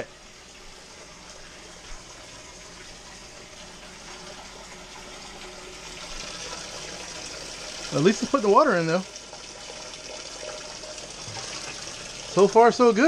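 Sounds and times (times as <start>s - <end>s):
water pouring into washing machine: 0.0s - 13.0s.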